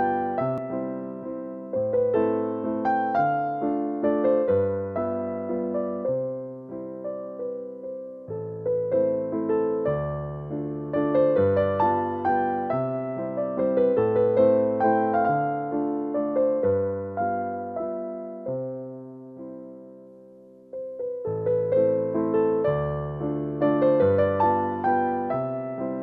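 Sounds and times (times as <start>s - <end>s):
gentle piano tune: 0.0s - 26.0s.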